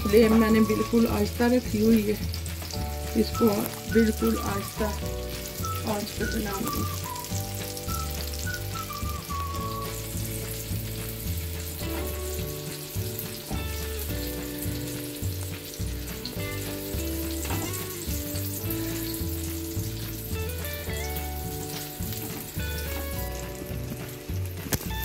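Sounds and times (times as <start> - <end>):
background music: 0.0 - 25.0
eggplant sizzling in oil: 0.0 - 25.0.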